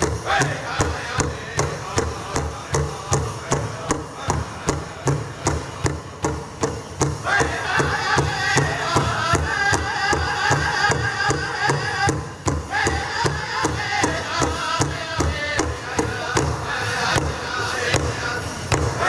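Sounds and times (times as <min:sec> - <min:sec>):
high singing voices: 0:00.0 - 0:06.0, 0:07.0 - 0:19.0
large drum beating: 0:00.0 - 0:19.0.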